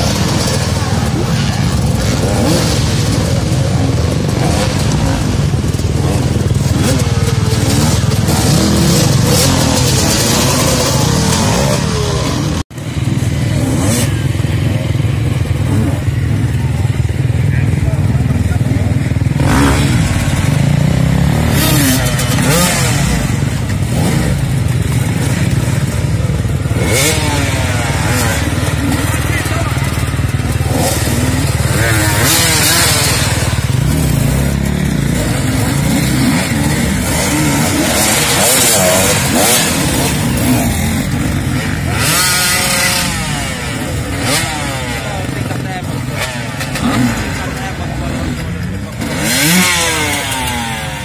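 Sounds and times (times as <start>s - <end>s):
dirt bike engines revving: 0.0s - 51.0s.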